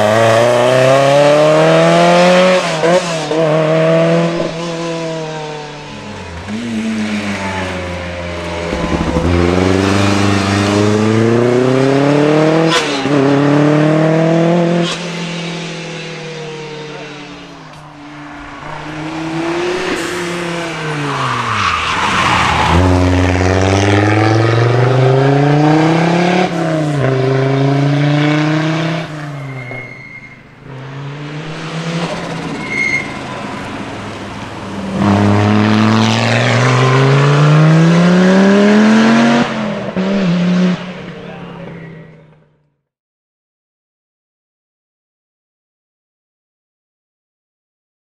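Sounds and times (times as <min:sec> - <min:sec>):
rally car engines revving: 0:00.0 - 0:42.4.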